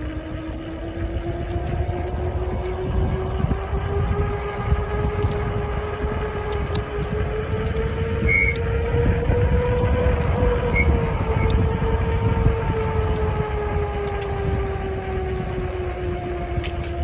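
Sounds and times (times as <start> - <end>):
electric motor whining: 0.0 - 17.0
wind rumble on microphone: 0.0 - 17.0.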